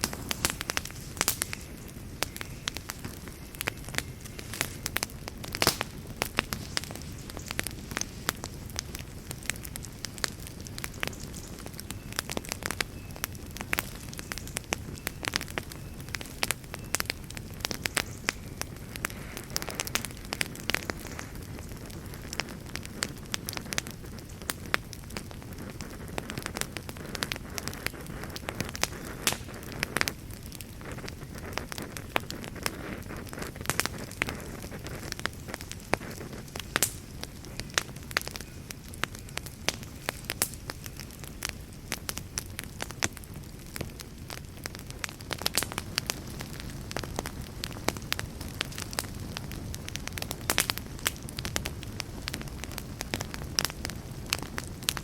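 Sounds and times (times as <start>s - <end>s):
burning wood crackling and popping: 0.0s - 55.0s
rumble of fire flames: 0.0s - 55.0s.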